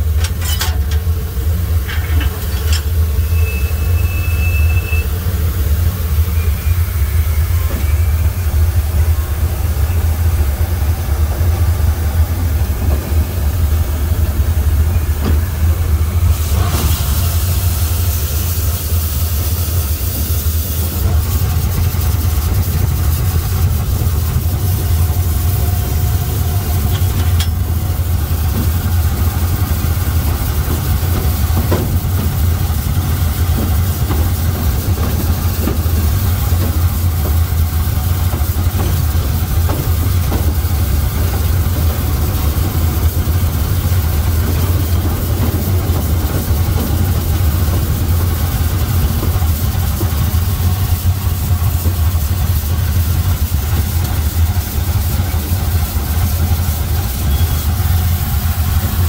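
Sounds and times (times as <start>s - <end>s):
steam locomotive rumble: 0.0s - 59.0s.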